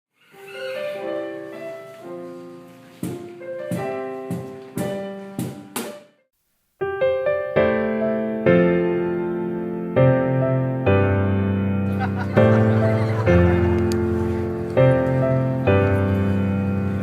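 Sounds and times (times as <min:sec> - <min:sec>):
piano chords: 0:00.3 - 0:06.2, 0:06.8 - 0:17.0.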